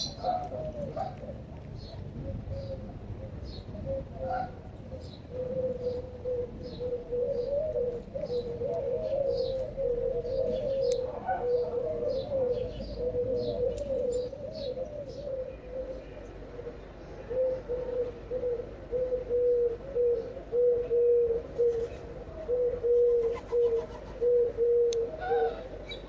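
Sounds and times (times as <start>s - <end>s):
bird cooing: 0.0s - 26.0s.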